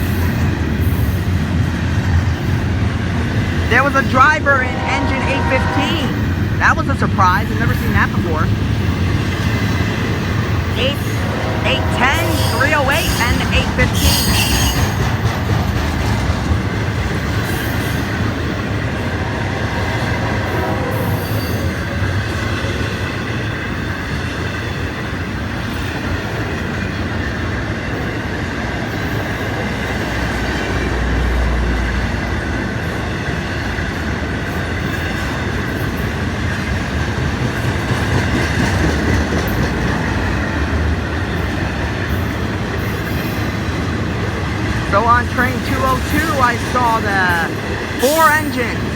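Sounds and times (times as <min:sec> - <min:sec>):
train wheels rumbling on rails: 0:00.0 - 0:07.4, 0:08.5 - 0:44.9.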